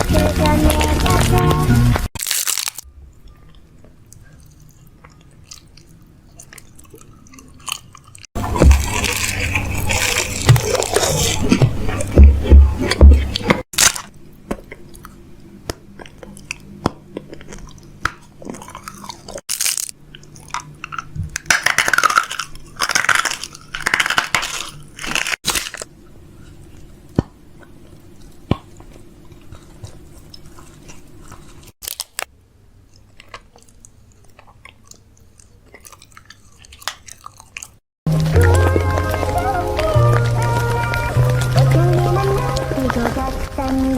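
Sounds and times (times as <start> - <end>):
chewing and crunching: 0.0 - 43.3.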